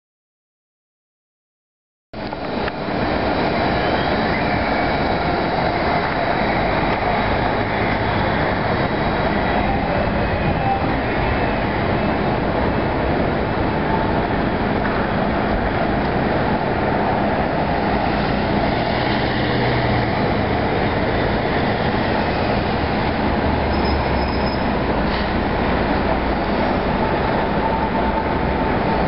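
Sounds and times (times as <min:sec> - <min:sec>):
street traffic: 0:02.2 - 0:29.0
trains: 0:02.2 - 0:29.0.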